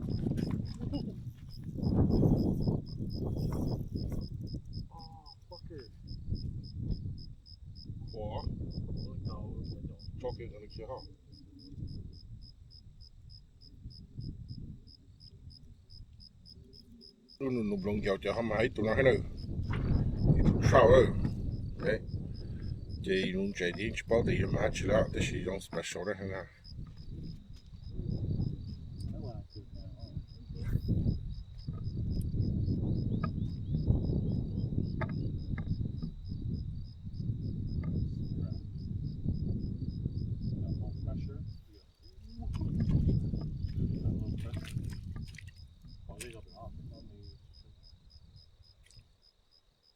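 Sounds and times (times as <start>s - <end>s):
low wind rumble on microphone: 0.0s - 48.9s
cricket chirping: 0.0s - 49.9s.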